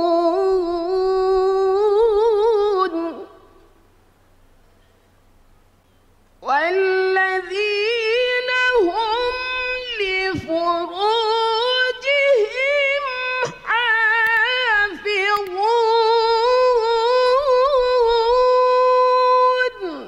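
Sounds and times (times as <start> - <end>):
woman reciting in long wavering notes: 0.0 - 3.8, 6.4 - 20.0.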